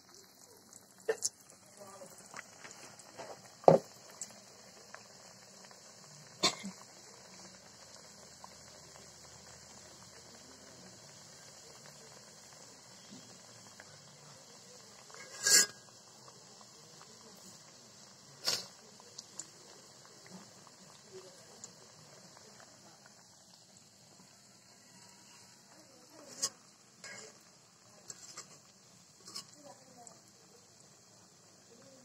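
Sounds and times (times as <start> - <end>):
hot oil sizzling: 0.0 - 32.0.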